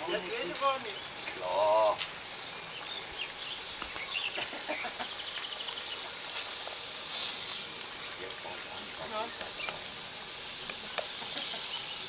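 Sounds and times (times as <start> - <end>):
hose spraying water onto concrete: 0.0 - 12.0.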